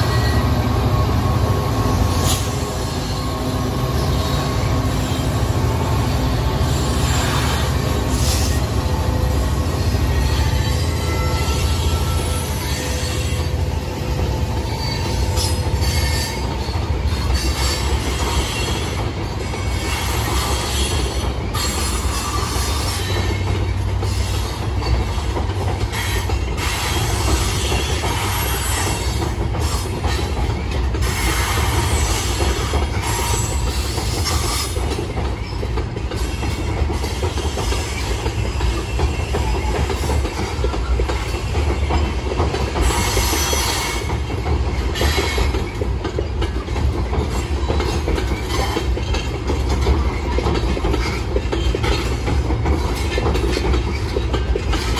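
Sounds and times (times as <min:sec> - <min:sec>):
freight train rumbling over bridge: 0:00.0 - 0:54.9.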